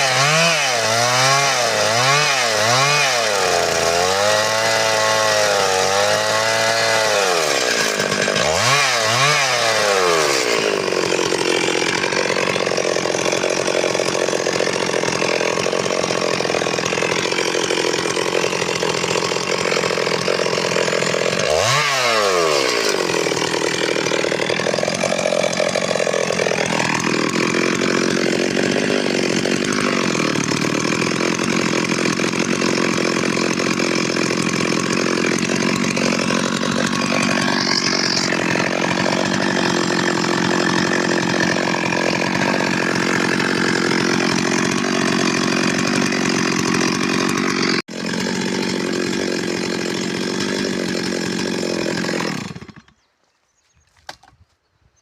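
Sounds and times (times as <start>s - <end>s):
chainsaw revving and cutting wood: 0.0s - 54.4s.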